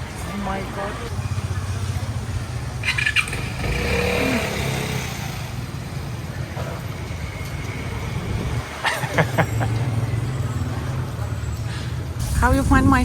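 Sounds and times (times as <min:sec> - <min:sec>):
motorbike and traffic engines: 0:00.0 - 0:13.0.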